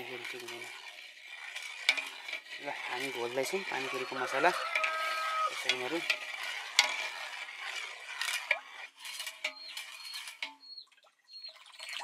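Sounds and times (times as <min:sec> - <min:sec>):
metal spoon scraping a pot: 0:00.0 - 0:10.9.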